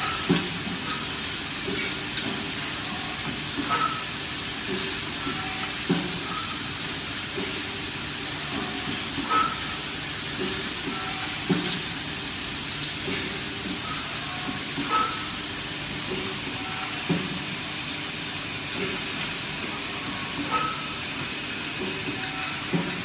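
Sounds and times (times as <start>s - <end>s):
welding machine hissing: 0.0s - 23.0s.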